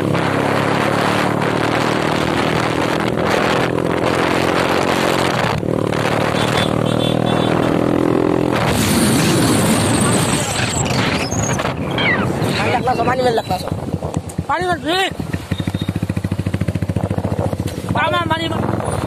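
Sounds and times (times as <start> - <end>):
motorcycle engine running: 0.0 - 10.2, 12.9 - 19.0
wind rush on microphone: 0.0 - 19.0.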